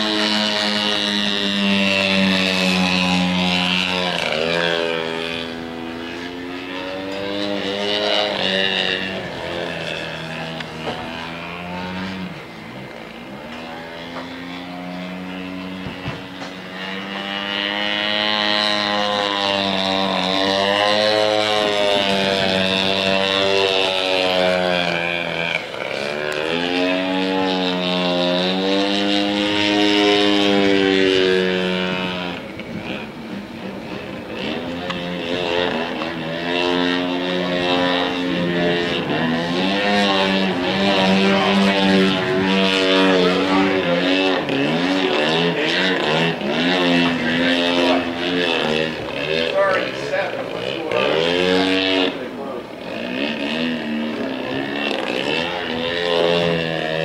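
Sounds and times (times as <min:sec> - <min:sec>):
model airplane engine and propeller: 0:00.0 - 0:57.0.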